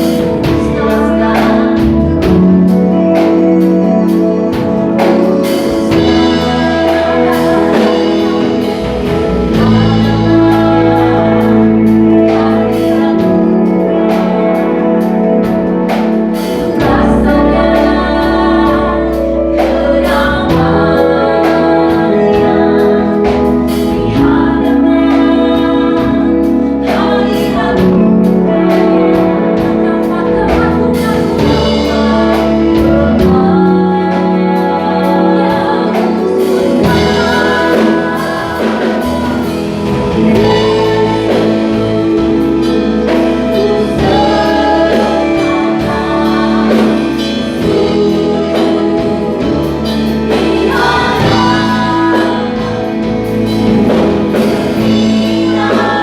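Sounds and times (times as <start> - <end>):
bass and drums: 0.0 - 56.0
worship band with singing: 0.0 - 56.0.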